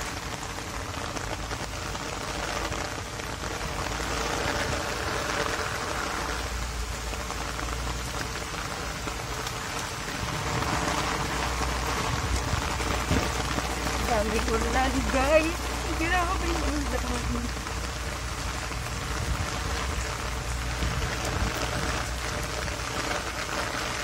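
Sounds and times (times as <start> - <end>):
heavy rain on paving: 0.0 - 24.0
wind gusting: 0.0 - 24.0.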